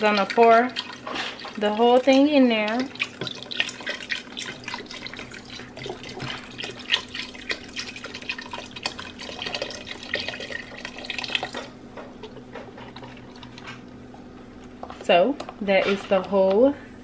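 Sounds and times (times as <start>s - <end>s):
liquid pouring into a pot: 0.0s - 13.7s.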